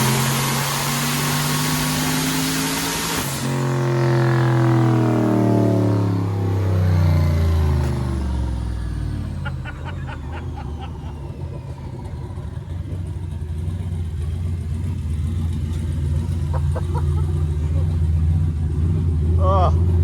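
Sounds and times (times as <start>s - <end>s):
engine revs dropping: 0.0s - 19.4s.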